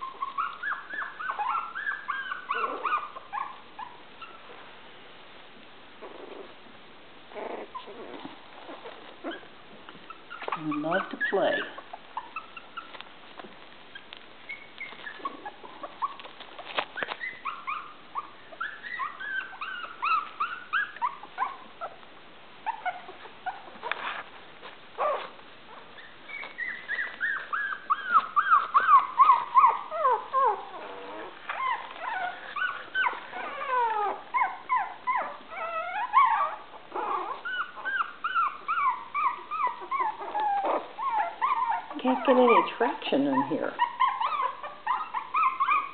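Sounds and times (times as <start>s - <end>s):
puppies whimpering and yipping: 0.0s - 4.7s, 6.0s - 6.6s, 7.3s - 45.9s.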